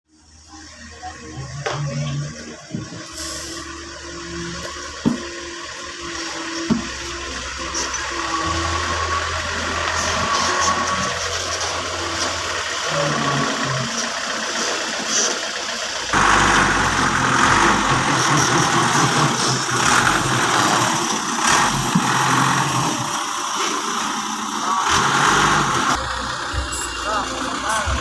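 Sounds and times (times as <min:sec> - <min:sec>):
truck engine rumbling: 0:00.1 - 0:28.0.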